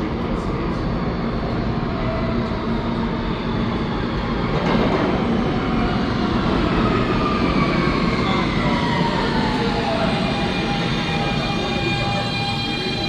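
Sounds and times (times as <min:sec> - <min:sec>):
subway train rumbling in tunnel: 0:00.0 - 0:13.0.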